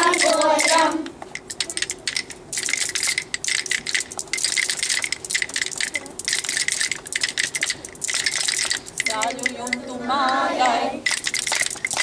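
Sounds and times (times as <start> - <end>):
wooden rhythm sticks clacking: 0.0 - 12.0.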